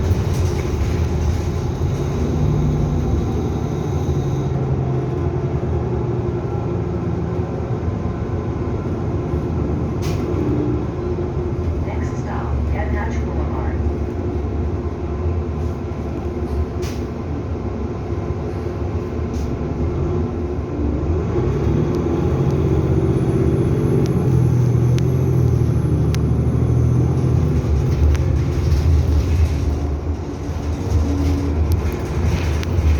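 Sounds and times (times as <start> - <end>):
bus engine running: 0.0 - 32.9.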